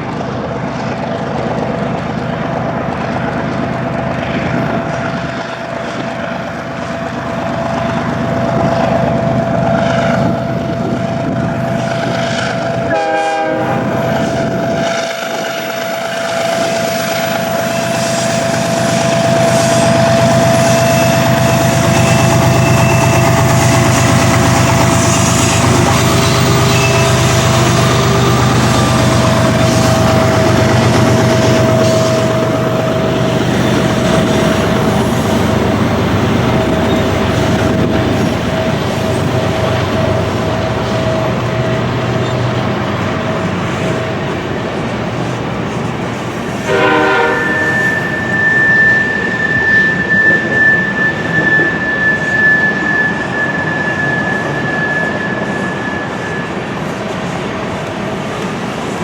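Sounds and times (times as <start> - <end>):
locomotive engines: 0.0 - 59.0
steel wheels on rails: 0.0 - 59.0
steady high tone: 5.6 - 44.2, 46.8 - 58.2.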